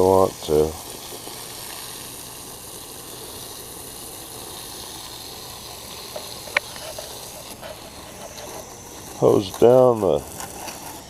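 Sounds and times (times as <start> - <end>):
hose spraying water on dirt: 0.0 - 11.0.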